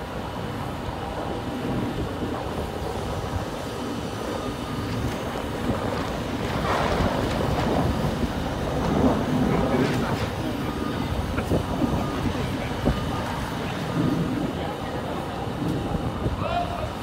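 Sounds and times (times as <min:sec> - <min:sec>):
heavy machinery rumbling: 0:00.0 - 0:17.0
wind gusting across microphone: 0:00.0 - 0:17.0.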